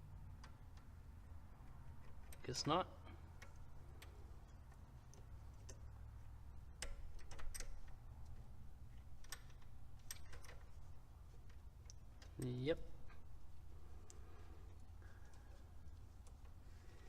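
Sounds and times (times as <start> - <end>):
faint low hum: 0.0 - 17.0
small parts clicking by hand: 0.2 - 17.0.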